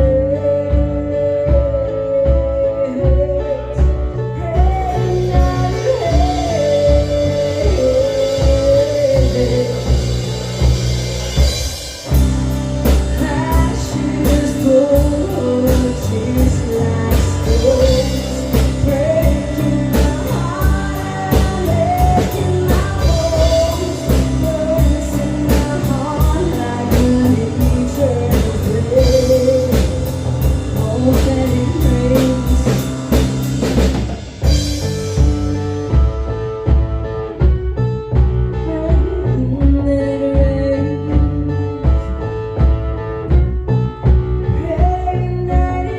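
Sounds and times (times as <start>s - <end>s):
drum kit: 0.0s - 45.9s
guitar: 0.0s - 45.9s
rock band playing: 0.0s - 45.9s.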